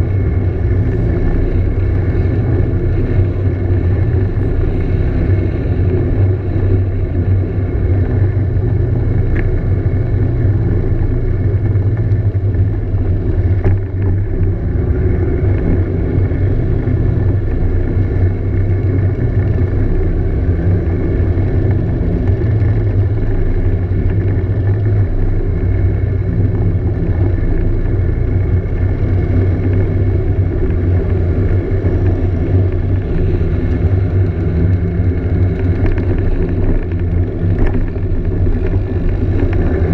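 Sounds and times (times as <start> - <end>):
scooter engine droning: 0.0 - 39.9.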